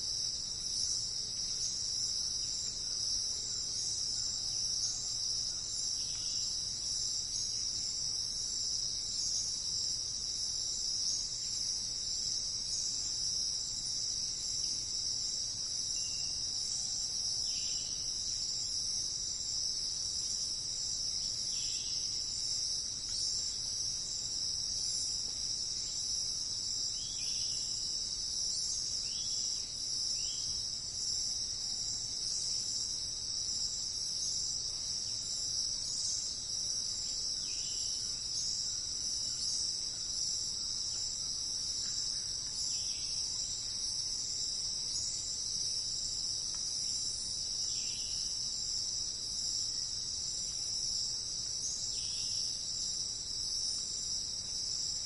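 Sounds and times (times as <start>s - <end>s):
insect chorus trilling: 0.0s - 55.0s.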